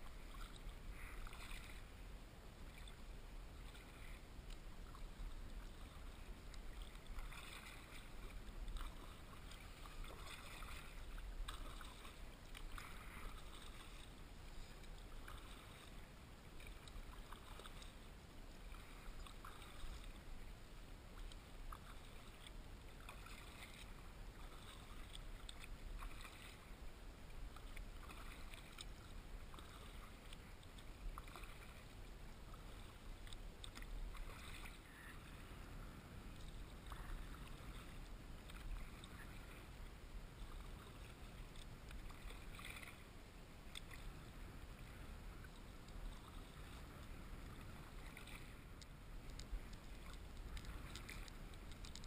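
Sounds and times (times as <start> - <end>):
kayak paddle strokes splashing: 0.0 - 52.0
low rumble of water and air: 0.0 - 52.0.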